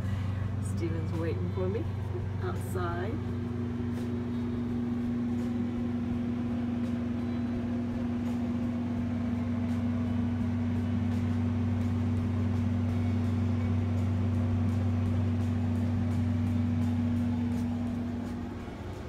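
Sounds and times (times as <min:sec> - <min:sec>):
deeper hum: 0:00.0 - 0:19.0
low mechanical hum: 0:00.0 - 0:19.0.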